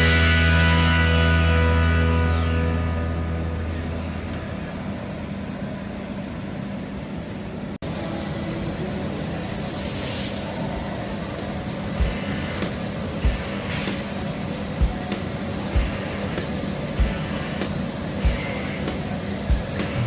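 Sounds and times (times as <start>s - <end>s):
steady high whine: 0.0s - 20.0s.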